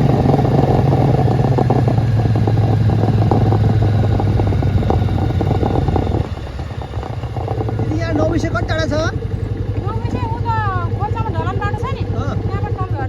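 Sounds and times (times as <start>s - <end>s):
rough rattle: 0.0s - 12.7s
motorcycle engine running: 0.0s - 13.0s.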